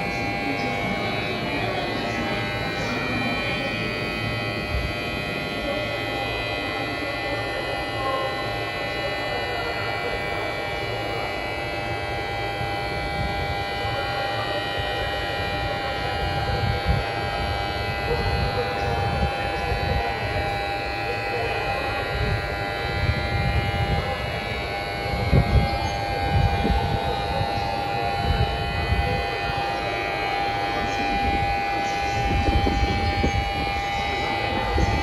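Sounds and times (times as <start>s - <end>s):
alarm buzzing: 0.0s - 35.0s.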